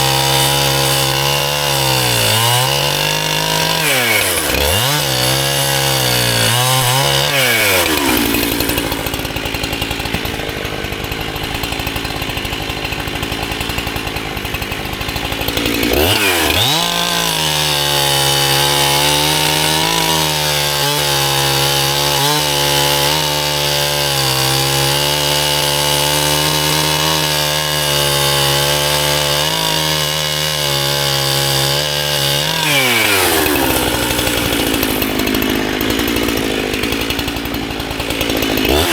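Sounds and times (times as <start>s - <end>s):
chainsaw engine: 0.0s - 38.9s.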